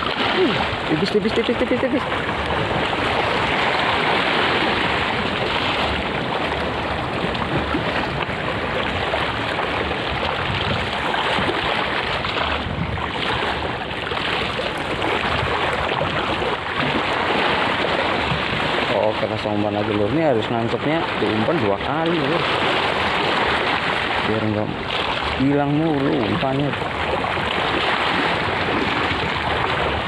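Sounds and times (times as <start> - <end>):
sea waves: 0.0 - 30.0
wind: 0.0 - 30.0.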